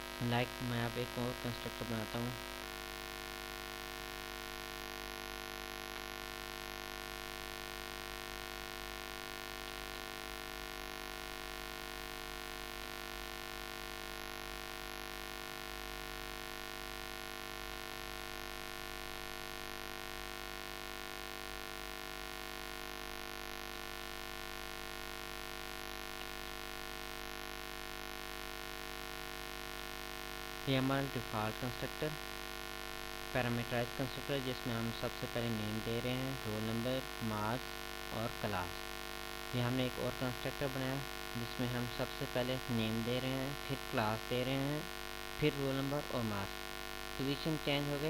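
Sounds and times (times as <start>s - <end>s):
electrical hum: 0.0s - 48.0s.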